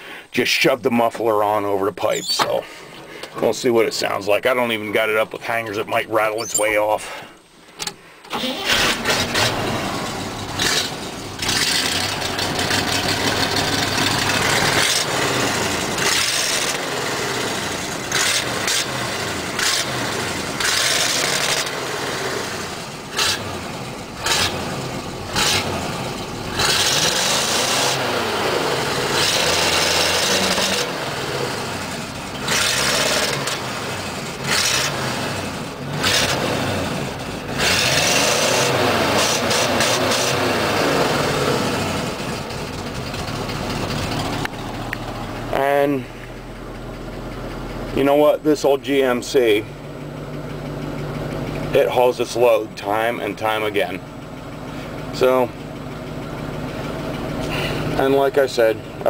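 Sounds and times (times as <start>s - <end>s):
truck engine revving: 8.4s - 59.0s.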